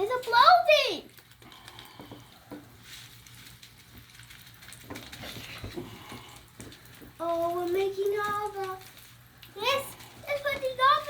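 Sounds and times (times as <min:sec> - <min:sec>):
chemical reaction fizzing and crackling: 0:00.0 - 0:11.0.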